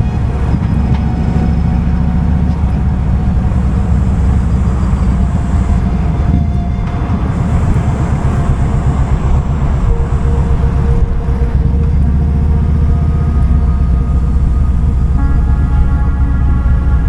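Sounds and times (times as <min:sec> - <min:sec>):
motorcycle engine pulsing: 0:00.0 - 0:17.0.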